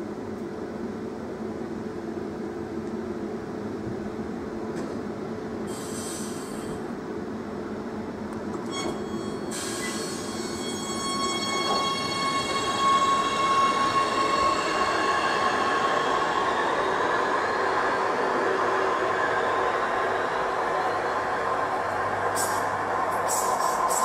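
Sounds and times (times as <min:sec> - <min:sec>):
metro train whine and wheel squeal: 0:00.0 - 0:24.0.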